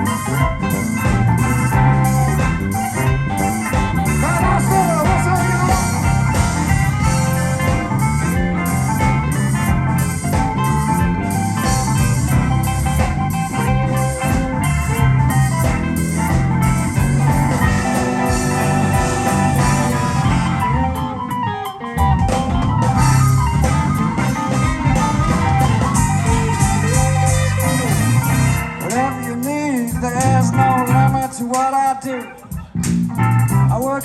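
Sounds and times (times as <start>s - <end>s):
blues band playing: 0.0s - 34.0s.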